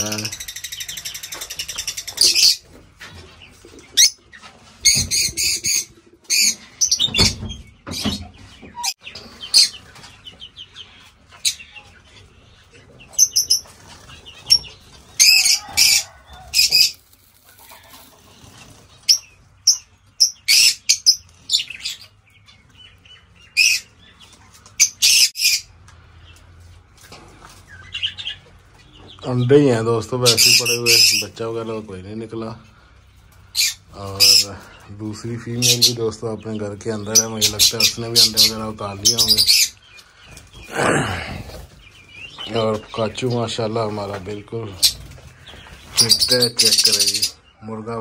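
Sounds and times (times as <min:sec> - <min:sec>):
lovebirds chirping: 0:00.0 - 0:48.0.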